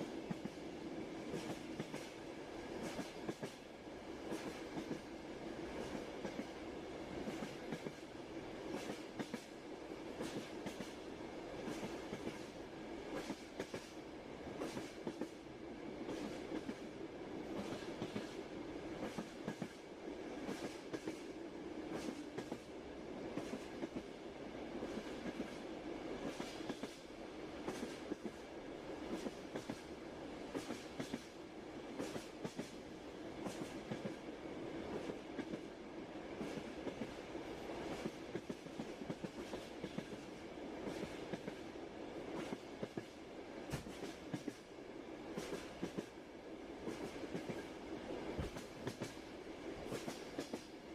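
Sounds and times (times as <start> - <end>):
train rumbling: 0.0 - 50.9.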